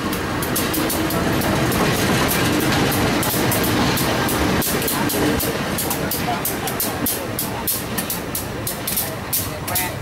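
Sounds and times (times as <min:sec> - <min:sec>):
diesel locomotive engine humming: 0:00.0 - 0:10.0
heavy rumble of moving train: 0:00.0 - 0:10.0.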